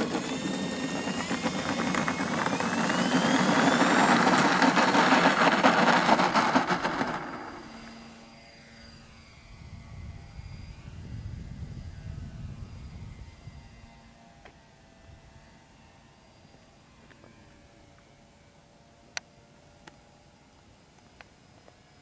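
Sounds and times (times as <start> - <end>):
model plane propeller motors whining: 0.0 - 22.0.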